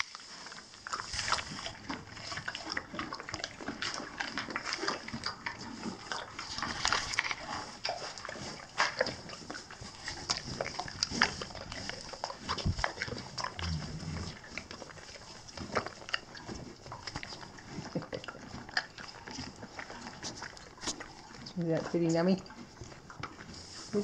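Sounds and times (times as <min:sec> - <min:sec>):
foal mouth smacking and licking: 0:00.0 - 0:24.0.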